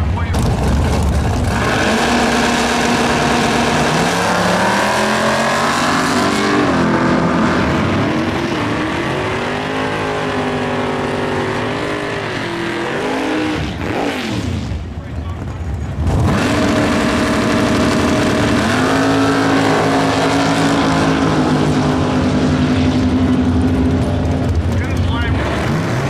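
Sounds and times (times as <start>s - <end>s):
cars accelerating hard: 0.3s - 14.8s, 16.0s - 26.0s.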